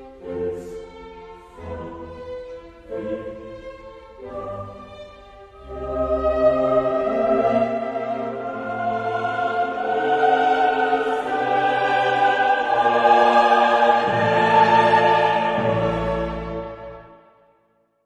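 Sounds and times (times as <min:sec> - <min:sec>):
slow orchestral music with choir: 0:00.0 - 0:17.9.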